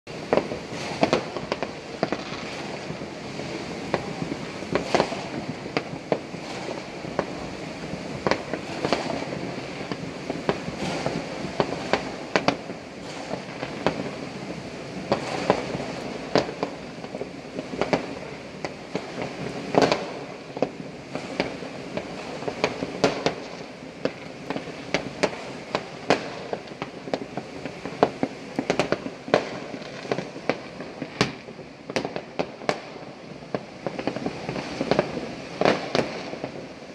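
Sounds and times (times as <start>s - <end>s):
distant fireworks hiss: 0.1s - 36.9s
sharp firecracker bangs: 0.1s - 36.9s.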